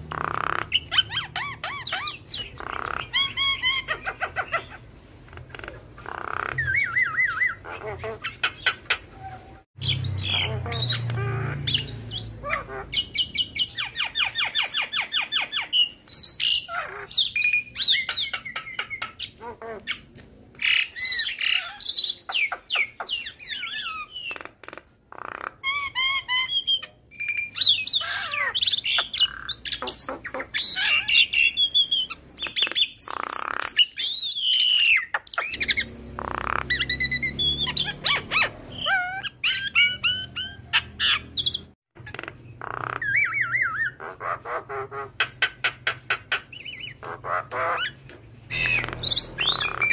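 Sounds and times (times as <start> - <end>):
bird harsh squawks: 0.0 - 49.9
myna bird singing: 0.0 - 49.9.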